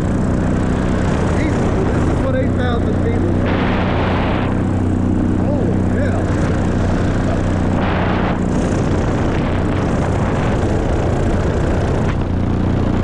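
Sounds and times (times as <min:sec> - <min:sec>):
paramotor engine and propeller: 0:00.0 - 0:13.0
wind rushing over microphone: 0:00.0 - 0:13.0.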